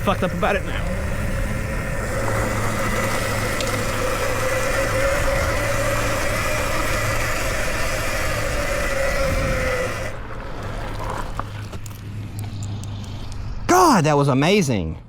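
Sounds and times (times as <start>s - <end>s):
electric motor whining: 0.0s - 13.6s
rumbling riding noise: 0.0s - 15.0s.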